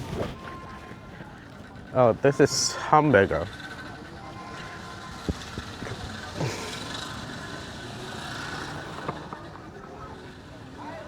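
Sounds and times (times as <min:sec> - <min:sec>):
passing traffic hum: 0:00.0 - 0:11.0.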